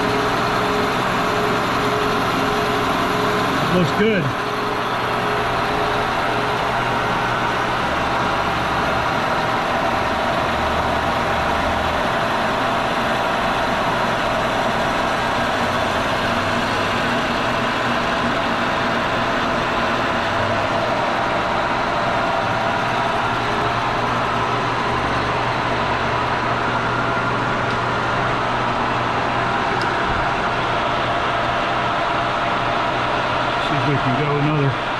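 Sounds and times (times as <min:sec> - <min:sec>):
milling machine cutting metal: 0:00.0 - 0:31.0.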